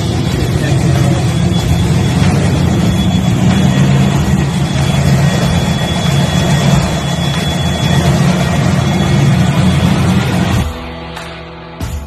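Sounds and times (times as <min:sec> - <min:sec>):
thin high whine: 0:00.0 - 0:10.8
car engine running: 0:00.0 - 0:10.9.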